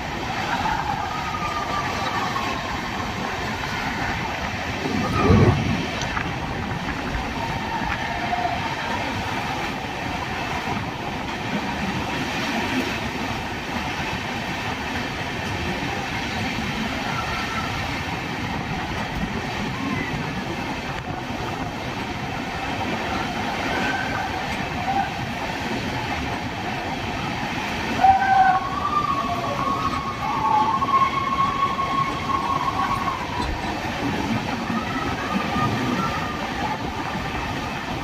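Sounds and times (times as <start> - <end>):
train rumbling through tunnel: 0.0 - 38.0.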